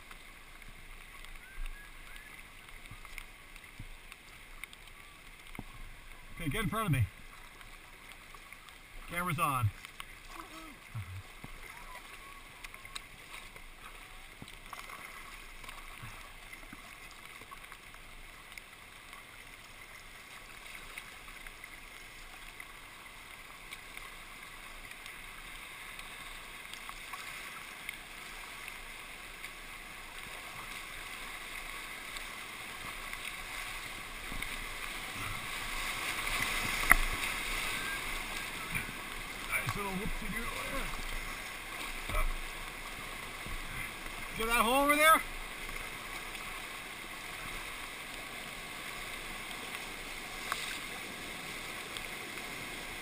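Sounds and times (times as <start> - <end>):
rushing whitewater: 0.0 - 53.0.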